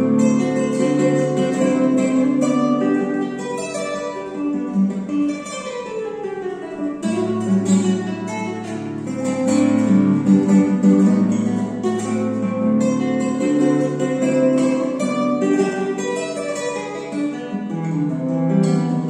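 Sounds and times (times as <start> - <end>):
fingerpicked nylon-string guitar: 0.0 - 19.0.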